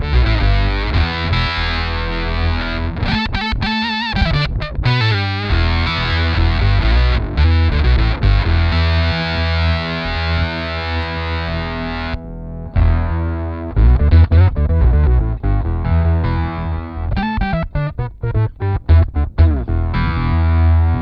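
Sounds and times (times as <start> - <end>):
electric guitar with octave bass: 0.0 - 21.0.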